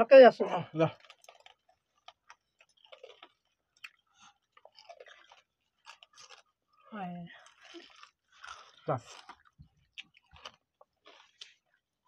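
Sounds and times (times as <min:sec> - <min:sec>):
close chewing crunches: 0:00.7 - 0:12.0.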